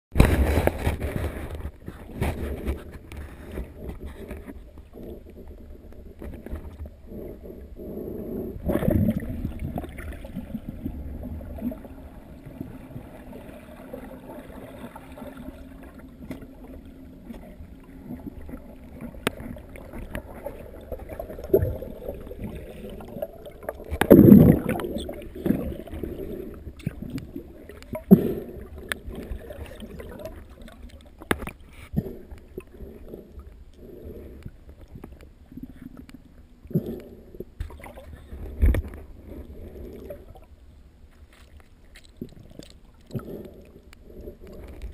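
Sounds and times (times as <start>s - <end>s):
muffled underwater rumble: 0.2s - 44.9s.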